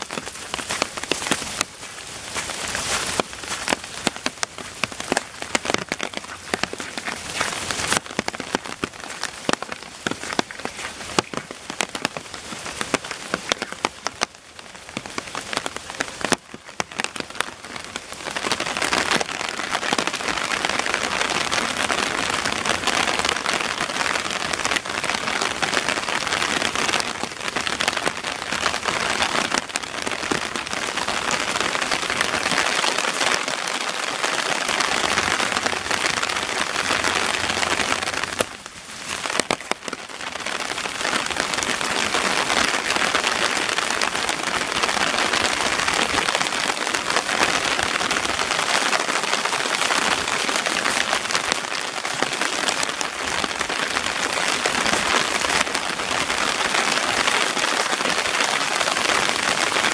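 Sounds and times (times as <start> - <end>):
rain falling: 0.0 - 59.9
raindrops ticking: 0.0 - 59.9.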